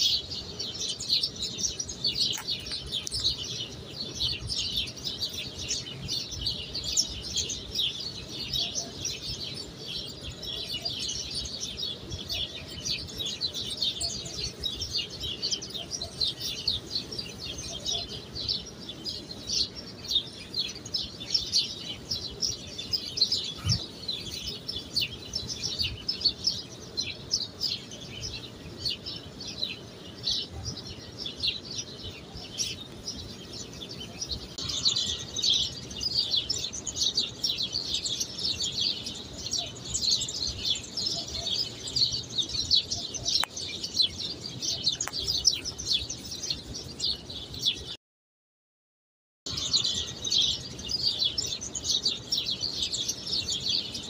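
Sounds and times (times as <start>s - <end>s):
small birds chirping: 0.0s - 48.0s, 49.5s - 54.0s.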